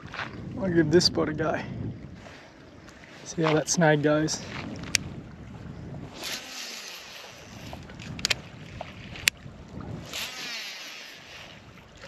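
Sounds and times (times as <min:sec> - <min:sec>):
wind gusting across microphone: 0:00.0 - 0:12.0.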